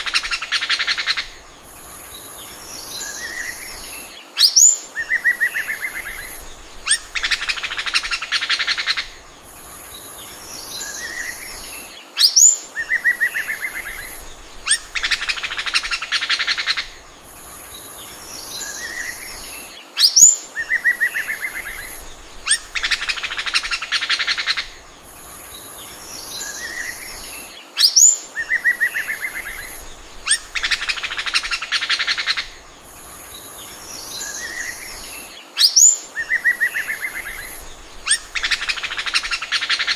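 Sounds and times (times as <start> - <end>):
bird song whistle and trill: 2.1 - 9.2, 10.3 - 17.0, 17.7 - 24.8, 25.5 - 32.6, 33.2 - 39.9.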